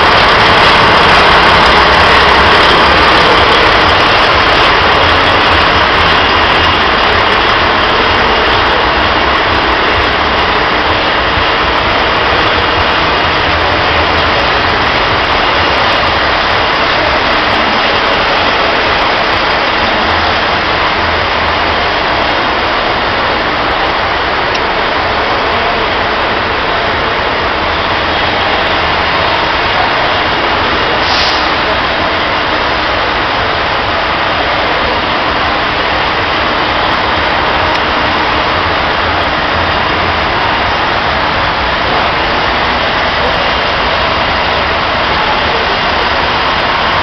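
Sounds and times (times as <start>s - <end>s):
diesel truck engine roaring: 0.0s - 47.0s.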